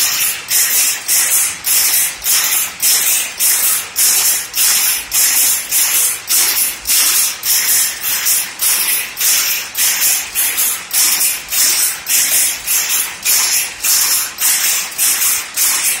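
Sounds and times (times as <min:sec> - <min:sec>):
power loom clattering: 0:00.0 - 0:16.0.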